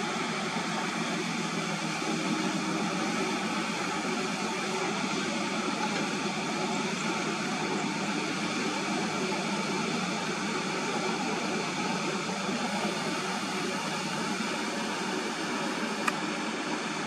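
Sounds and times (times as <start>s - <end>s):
dump truck driving on sandy soil: 0.0s - 17.0s.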